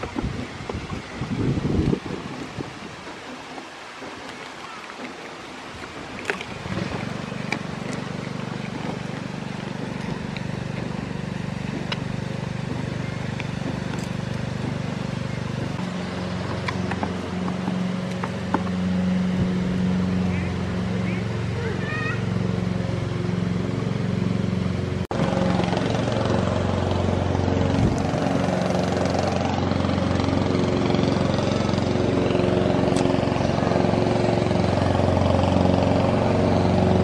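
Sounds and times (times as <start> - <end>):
lawn mower engine running: 5.5 - 37.0.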